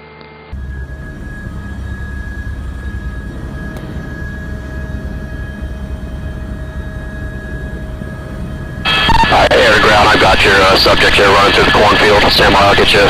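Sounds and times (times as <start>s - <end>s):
helicopter engine whine: 0.3s - 13.0s
helicopter rotor rumble: 0.5s - 13.0s.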